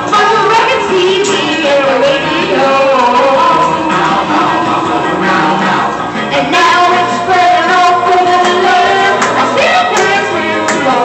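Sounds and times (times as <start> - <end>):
boy singing into microphone: 0.0 - 4.6, 6.3 - 11.0
musical accompaniment: 0.0 - 11.0.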